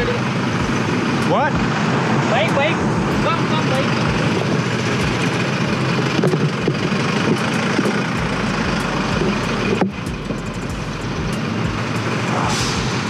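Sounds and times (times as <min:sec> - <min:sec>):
truck and car engines: 0:00.0 - 0:13.0.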